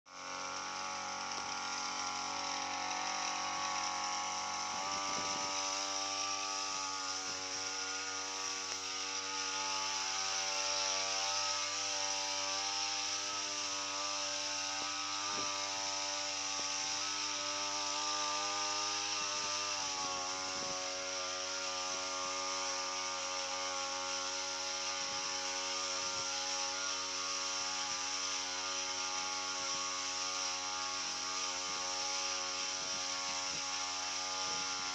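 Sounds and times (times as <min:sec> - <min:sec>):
motorized sprayer humming: 0:00.1 - 0:34.9.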